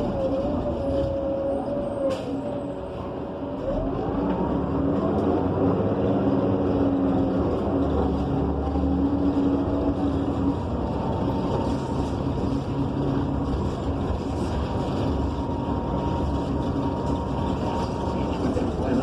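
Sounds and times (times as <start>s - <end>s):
bus engine running: 0.0s - 19.0s
road and tyre noise: 0.0s - 19.0s.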